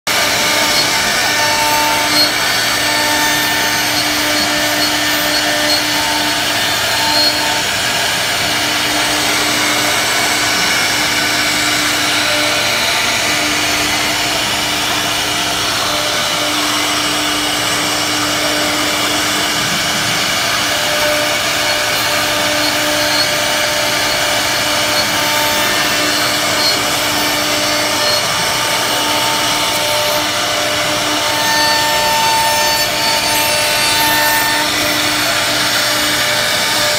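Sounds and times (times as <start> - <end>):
machine hum: 0.1 - 36.9
router spindle whir: 0.1 - 36.9.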